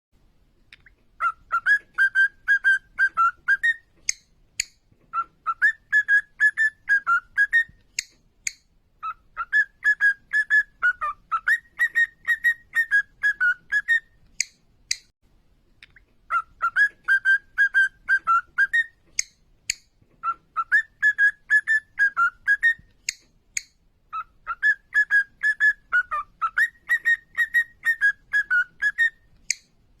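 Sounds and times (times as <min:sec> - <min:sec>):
cockatiel whistling song: 0:01.2 - 0:15.1, 0:16.3 - 0:29.7.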